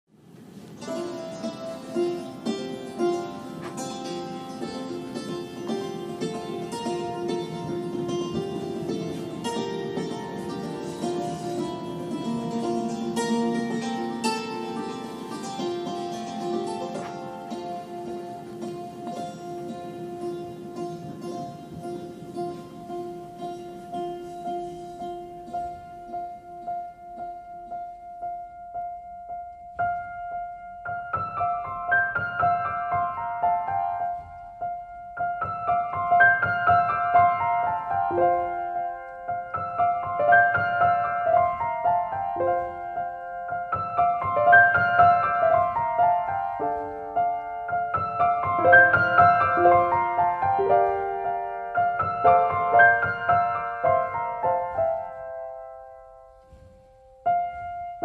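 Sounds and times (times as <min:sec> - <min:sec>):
gentle solo piano music: 0:00.8 - 0:58.0.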